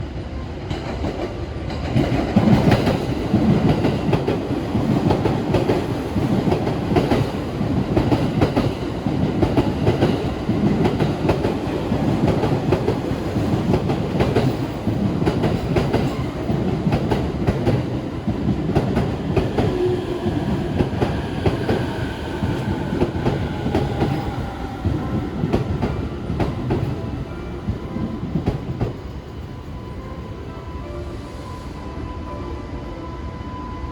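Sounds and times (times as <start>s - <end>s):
train wheels clattering on rails: 0.6s - 29.2s.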